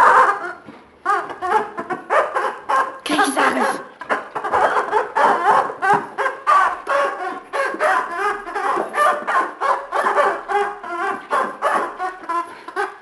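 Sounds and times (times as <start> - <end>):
rubber chicken toy squeaking: 0.0 - 3.0, 3.8 - 13.0.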